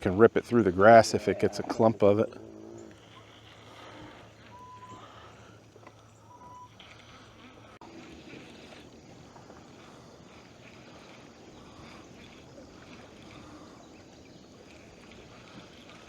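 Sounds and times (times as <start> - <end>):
boat on open water: 0.0 - 16.0.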